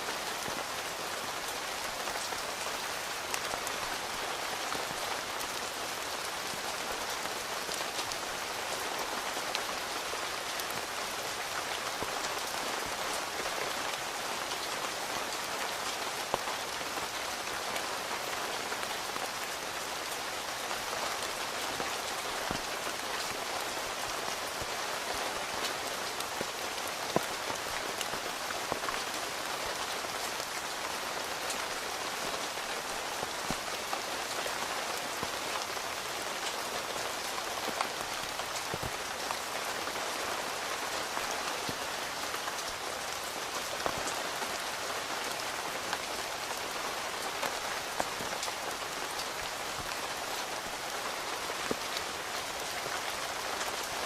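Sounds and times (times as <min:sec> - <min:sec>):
rain pattering on a tent: 0:00.0 - 0:54.0.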